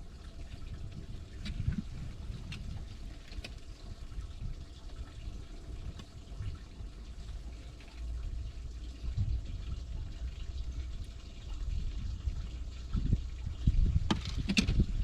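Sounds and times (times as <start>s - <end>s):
steady low rumble: 0.0s - 15.0s
water splashing and dripping: 0.0s - 15.0s.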